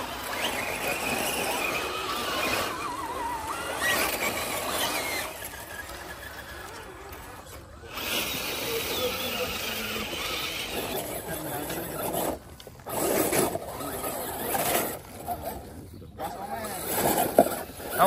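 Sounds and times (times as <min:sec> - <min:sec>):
toy car electric motor whine: 0:00.0 - 0:18.0.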